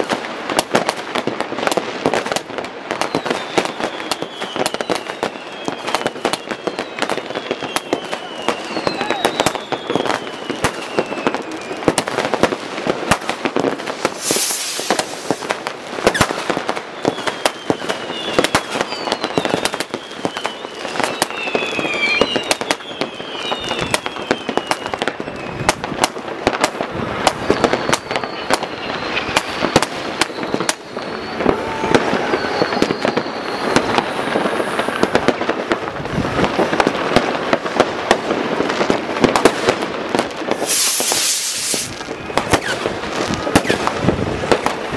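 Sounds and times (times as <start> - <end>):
firecracker pops: 0.0 - 44.9
fireworks bangs: 0.0 - 44.9
whistling rockets: 0.0 - 44.9.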